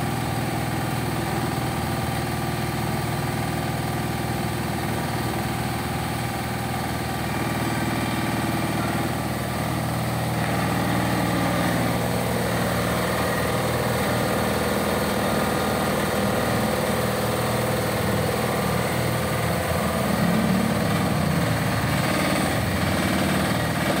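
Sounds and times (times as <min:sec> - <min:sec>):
diesel excavator engine running: 0:00.0 - 0:24.0.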